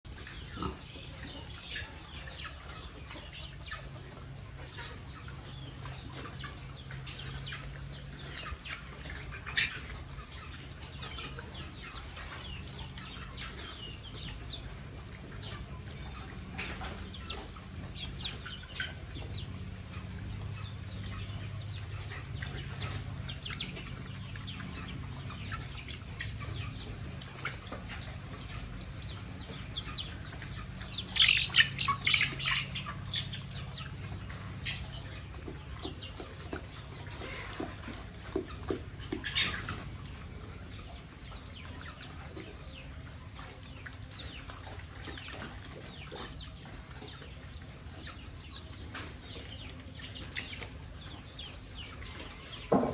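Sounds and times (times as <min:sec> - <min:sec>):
birds chirping and squawking: 0:00.1 - 0:52.9
low steady hum: 0:00.1 - 0:52.9.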